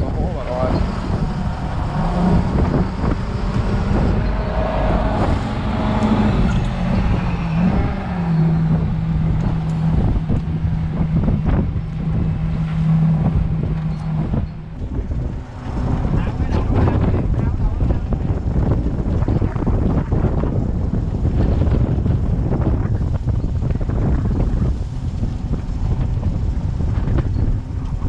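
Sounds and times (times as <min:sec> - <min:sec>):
boat motor humming: 0:00.0 - 0:28.0
wind on microphone: 0:00.0 - 0:28.0.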